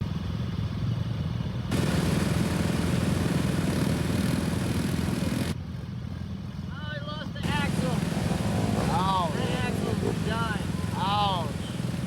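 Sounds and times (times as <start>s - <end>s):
atv engine running: 0.0s - 6.7s, 7.4s - 12.0s.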